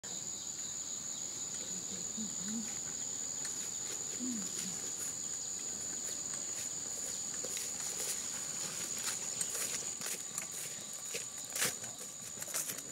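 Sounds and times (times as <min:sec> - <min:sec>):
insects droning: 0:00.0 - 0:12.9
low insect buzz: 0:00.0 - 0:12.9.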